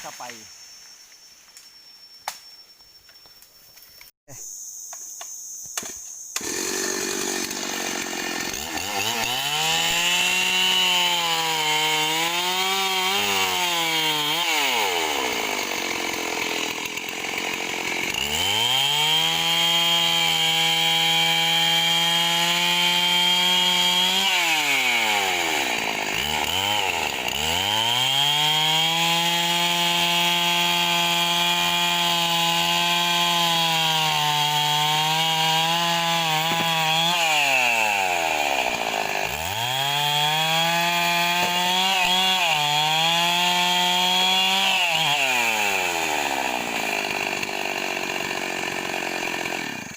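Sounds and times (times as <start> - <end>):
chainsaw cutting wood: 5.8 - 49.9.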